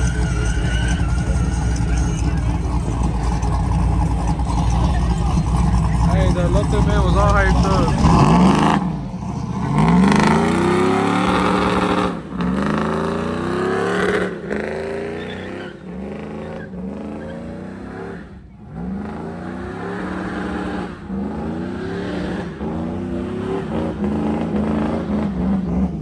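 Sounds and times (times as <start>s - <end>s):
vehicle engine revving: 0.0s - 26.0s.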